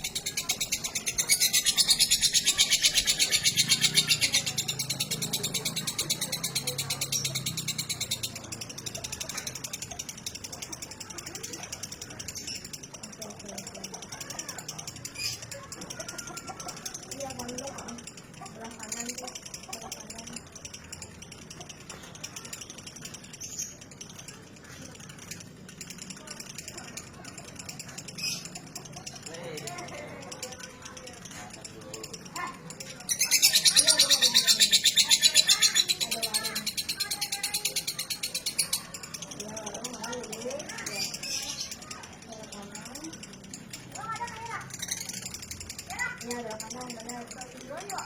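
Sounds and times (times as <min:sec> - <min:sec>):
lovebird chattering trill: 0:00.0 - 0:48.0.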